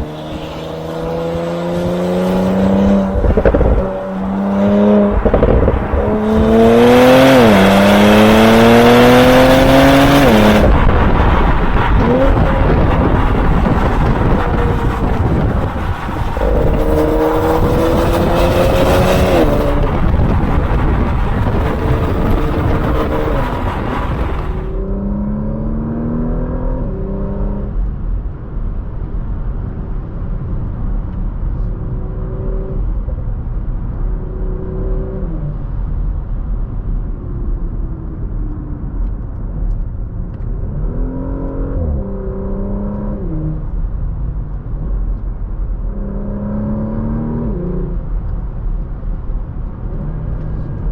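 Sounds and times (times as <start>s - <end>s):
car engine accelerating: 0.0s - 50.9s
wind and road noise: 0.0s - 50.9s.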